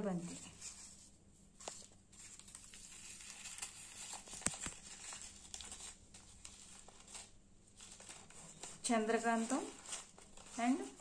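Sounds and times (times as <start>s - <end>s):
paper crinkling and rustling: 0.1s - 11.0s.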